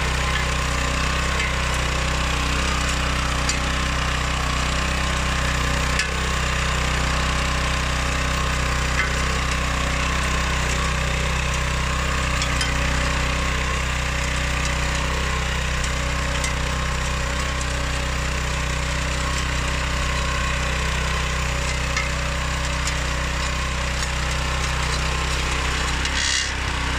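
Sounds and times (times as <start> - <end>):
petrol engine running steadily: 0.0 - 26.9.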